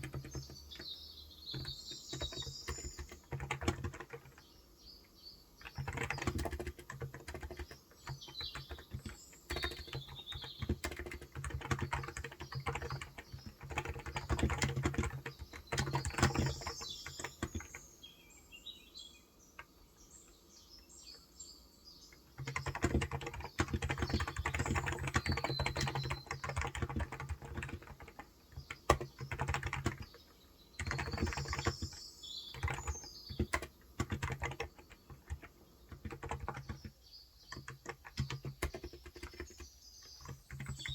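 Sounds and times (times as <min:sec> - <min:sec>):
keyboard typing: 0:00.0 - 0:04.5, 0:05.6 - 0:17.8, 0:22.1 - 0:30.2, 0:30.8 - 0:40.9
birds chirping: 0:00.0 - 0:40.9.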